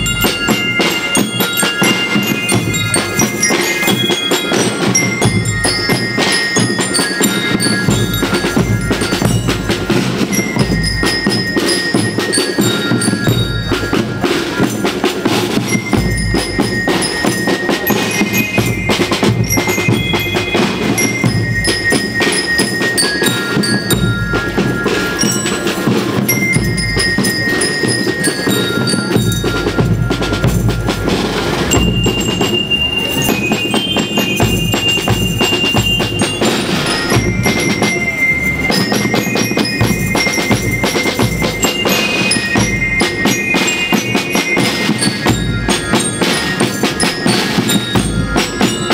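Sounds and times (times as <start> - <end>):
bell lyres playing melody: 0.0 - 48.9
snare and bass drums: 0.0 - 48.9.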